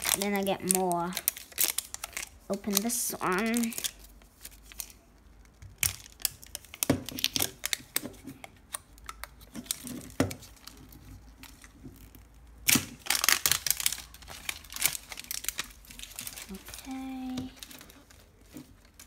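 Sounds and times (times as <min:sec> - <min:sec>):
plastic wrapping crinkling and tearing: 0:00.0 - 0:19.0.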